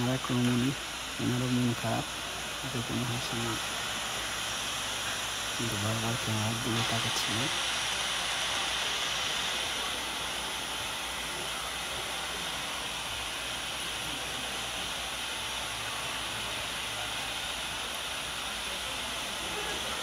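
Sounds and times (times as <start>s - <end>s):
hair dryers blowing: 0.0s - 20.0s.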